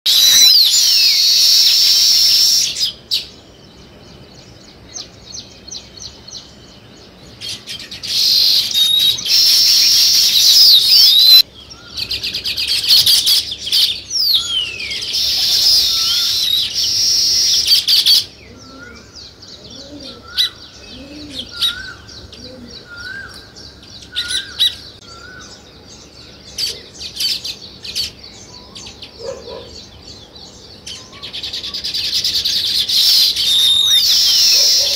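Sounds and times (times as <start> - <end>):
low bird call: 0.1 - 3.5, 4.2 - 34.9
songbirds chirping: 0.1 - 34.9.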